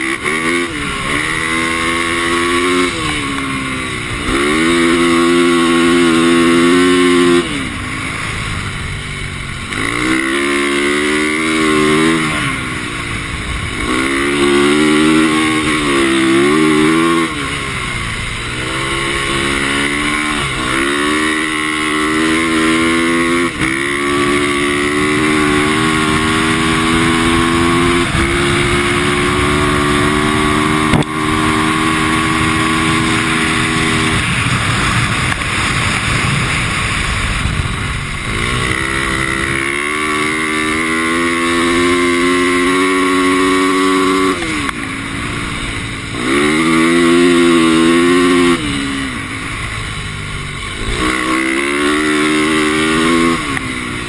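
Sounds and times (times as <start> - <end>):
dirt bike engine revving: 0.0 - 54.0
steady rushing noise: 0.0 - 54.0.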